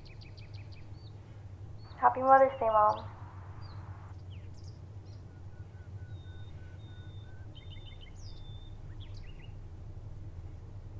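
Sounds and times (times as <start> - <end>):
small birds chirping: 0.0 - 10.8
steady low hum: 0.0 - 10.9.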